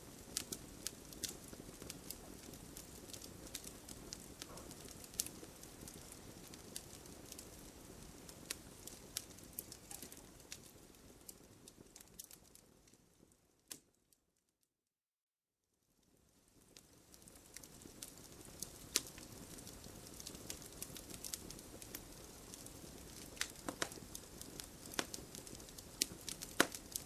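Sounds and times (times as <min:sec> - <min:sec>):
low rumble of flame: 0:00.0 - 0:13.4, 0:16.0 - 0:27.0
campfire crackling and popping: 0:00.0 - 0:14.0, 0:16.1 - 0:27.0.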